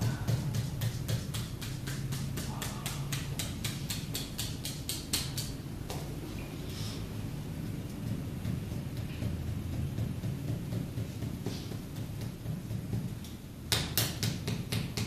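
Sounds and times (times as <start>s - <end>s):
rapid tapping on skin: 0.0s - 6.2s, 7.5s - 15.0s.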